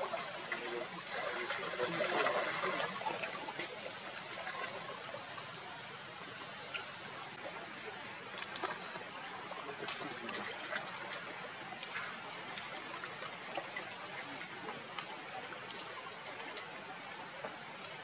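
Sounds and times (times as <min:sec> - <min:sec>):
small splashes and drips: 0:00.0 - 0:05.5, 0:06.3 - 0:18.0
water trickling and lapping: 0:00.0 - 0:18.0.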